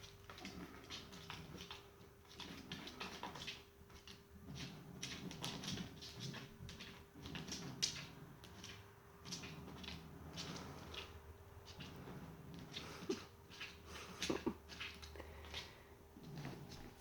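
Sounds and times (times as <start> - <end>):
cats rustling and shuffling: 0.0 - 17.0.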